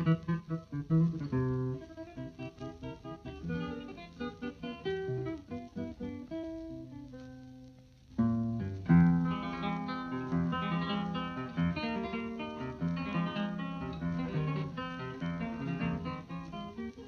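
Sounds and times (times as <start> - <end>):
flamenco-style acoustic guitar: 0.0 - 17.0.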